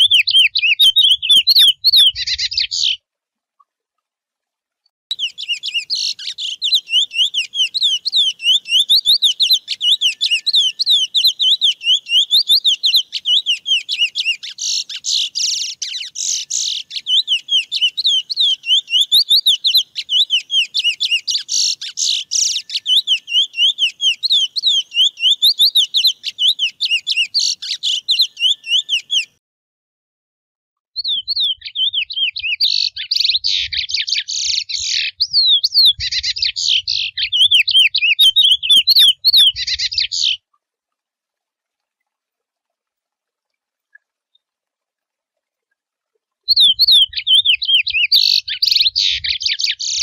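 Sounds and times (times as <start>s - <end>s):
finch singing whistled notes: 0.0s - 3.0s, 5.1s - 29.4s, 31.0s - 40.4s, 46.5s - 50.0s.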